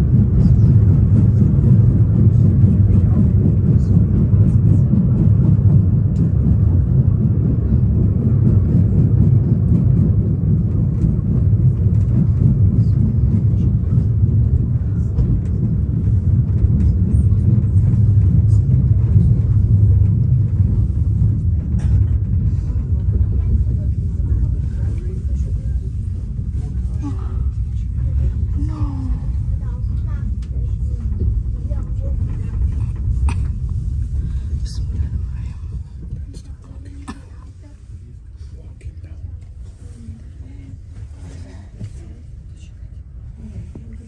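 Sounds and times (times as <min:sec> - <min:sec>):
funicular car rumbling: 0:00.0 - 0:44.0.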